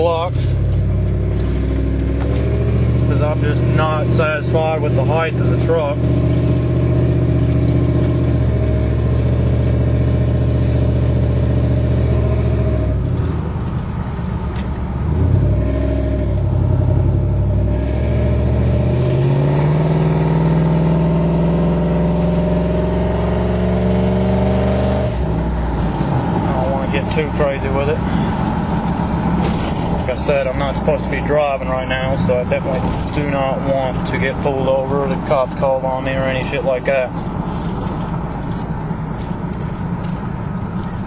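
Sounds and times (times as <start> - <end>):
pickup truck engine accelerating: 0.0 - 41.0.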